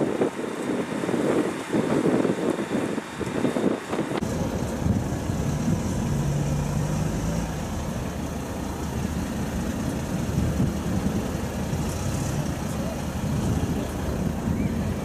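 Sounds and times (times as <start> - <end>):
fire truck engine idling: 0.0 - 15.0.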